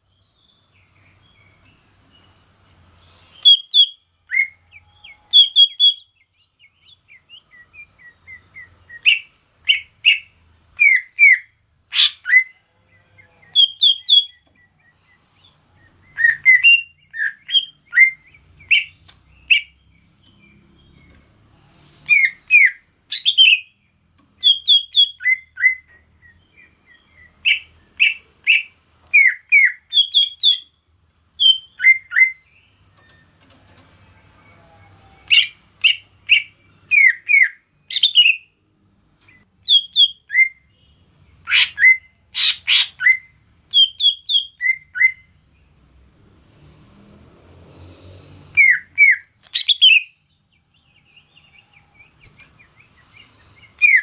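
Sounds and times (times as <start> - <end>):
bird singing whistled notes: 3.0 - 21.2, 22.0 - 23.8, 24.4 - 30.8, 31.4 - 33.3, 34.6 - 38.6, 39.3 - 45.4, 48.5 - 54.0.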